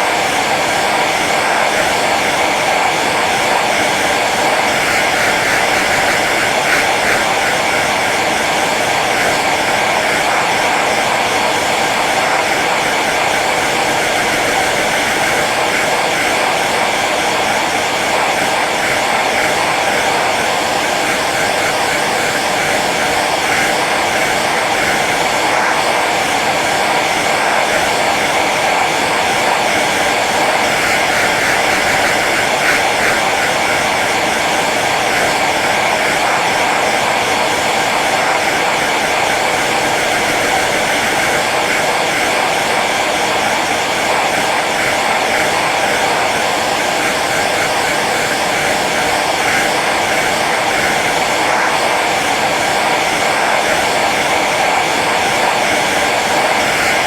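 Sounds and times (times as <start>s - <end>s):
hair dryer blowing air: 0.0s - 57.0s.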